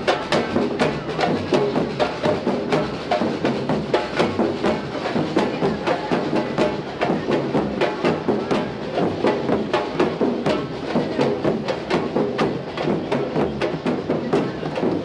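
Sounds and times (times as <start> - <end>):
marching drums playing fast rhythm: 0.0 - 15.0.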